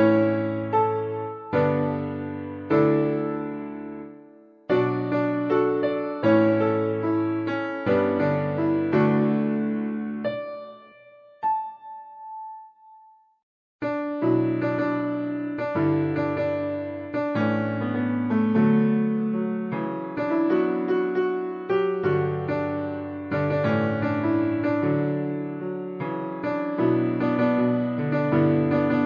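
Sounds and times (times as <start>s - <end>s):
solo piano playing: 0.0s - 29.0s.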